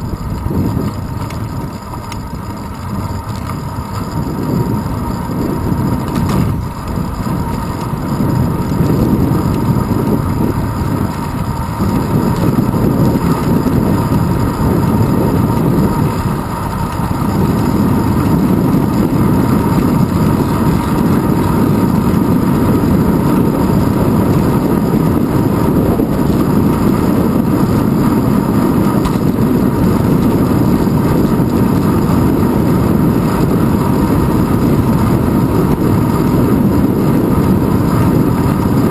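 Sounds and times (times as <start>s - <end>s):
road vibration rumble: 0.0s - 38.9s
wind buffeting: 0.0s - 38.9s.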